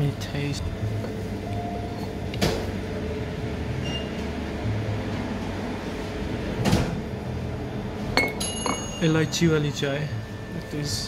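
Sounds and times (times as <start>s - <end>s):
cafe background hum: 0.0s - 11.0s.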